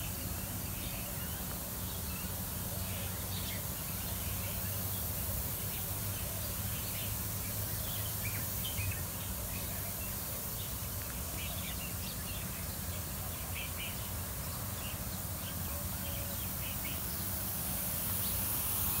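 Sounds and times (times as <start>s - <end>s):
small birds chirping: 0.0s - 19.0s
sprinklers spraying: 0.0s - 19.0s.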